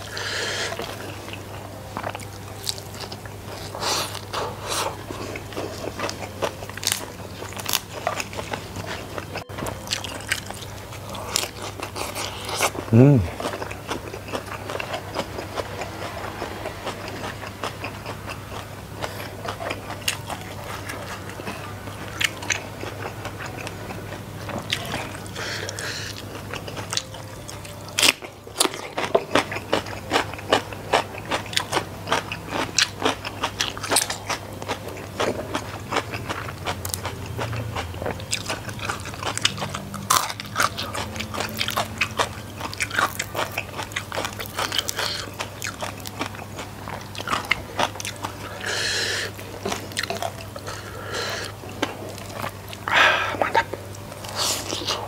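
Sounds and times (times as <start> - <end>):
food crunching: 0.0 - 55.0
person chewing food: 0.0 - 55.0.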